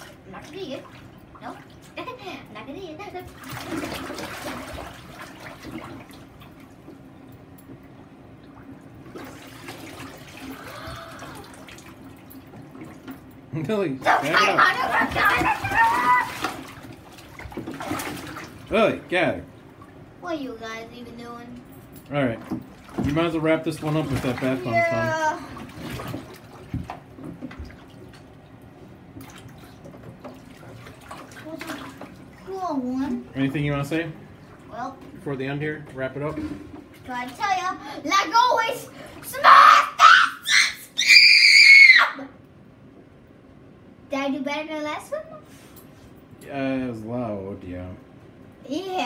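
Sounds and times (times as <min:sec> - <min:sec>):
bathwater sloshing and splashing: 0:00.0 - 0:39.8.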